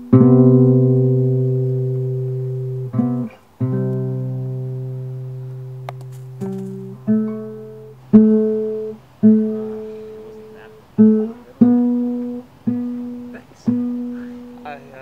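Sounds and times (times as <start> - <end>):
acoustic guitar picking notes: 0.0 - 15.0.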